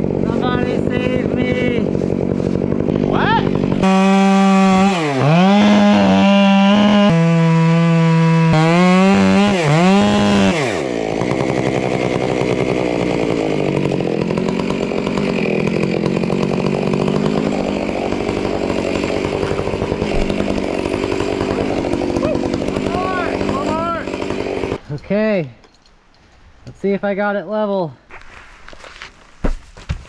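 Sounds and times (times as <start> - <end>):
chainsaw cutting wood: 0.0 - 24.8.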